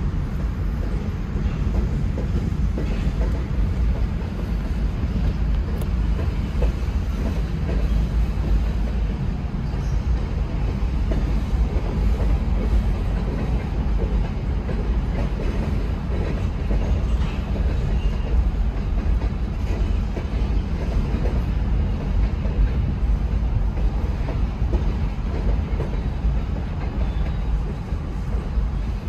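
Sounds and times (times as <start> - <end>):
rail clicks: 0.0 - 29.0
train wheels rumbling on rails: 0.0 - 29.0.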